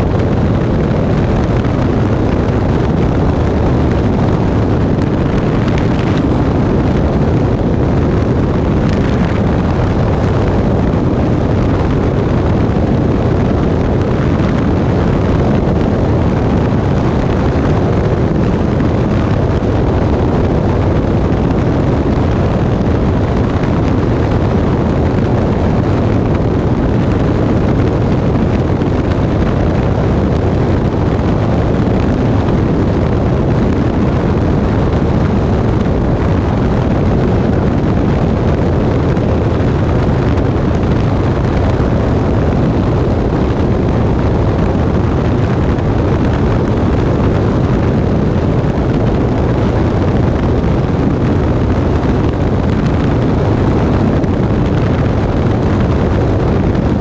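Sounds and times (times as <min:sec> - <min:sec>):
aircraft engine running: 0:00.0 - 0:57.0
wind buffeting microphone: 0:00.0 - 0:57.0.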